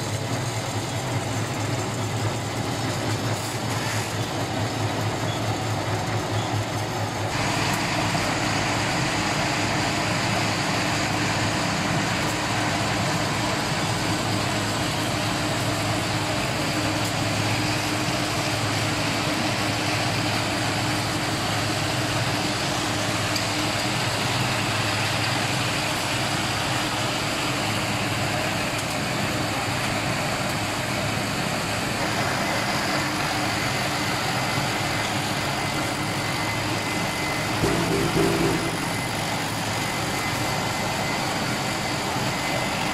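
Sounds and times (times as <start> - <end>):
motor and gearbox hum: 0.0 - 42.9
machine hiss: 7.3 - 42.9.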